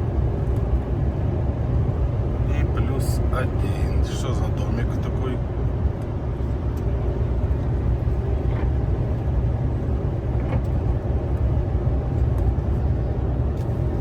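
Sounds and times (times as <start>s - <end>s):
truck engine and tyres droning: 0.0s - 14.0s.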